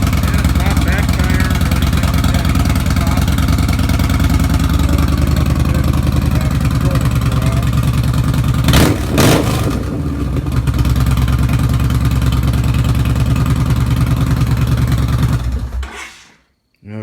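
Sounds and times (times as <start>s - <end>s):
motorcycle engine idling: 0.0s - 15.8s
motorcycle engine revving bursts: 0.0s - 15.9s.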